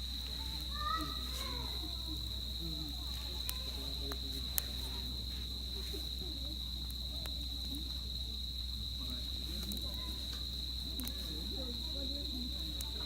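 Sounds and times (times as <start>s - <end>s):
campfire popping: 0.0s - 13.0s
crickets trilling: 0.0s - 13.0s.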